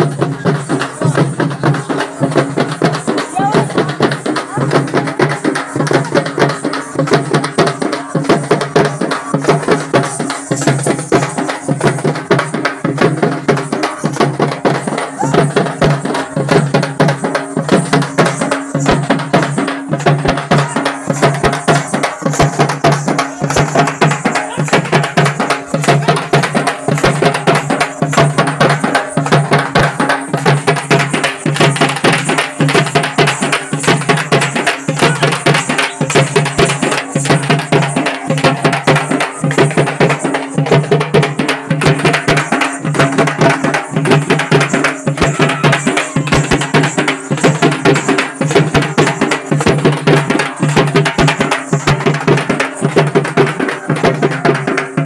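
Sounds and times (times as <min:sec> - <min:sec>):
loud fast drumming: 0:00.0 - 0:55.0.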